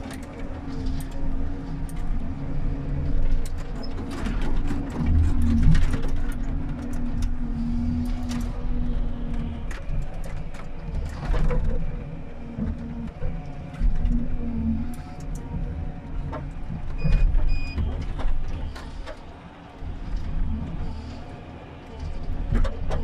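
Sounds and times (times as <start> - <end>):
diesel engine and hydraulics running: 0.0 - 23.0.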